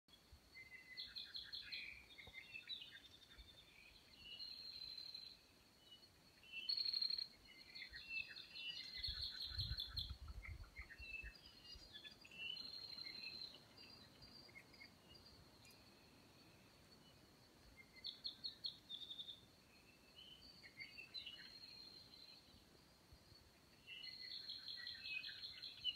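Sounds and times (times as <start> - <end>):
birds chirping and trilling: 0.1 - 25.9.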